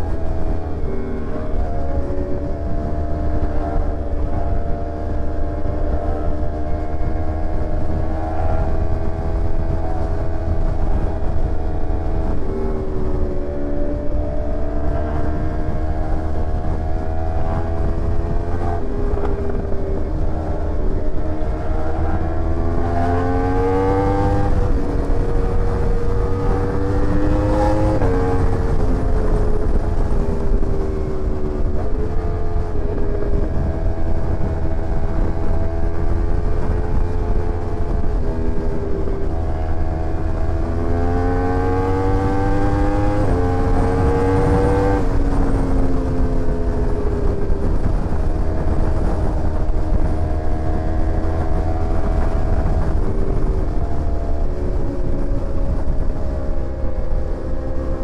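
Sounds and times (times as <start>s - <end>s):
motorcycle engine revving at speed: 0.0s - 58.0s.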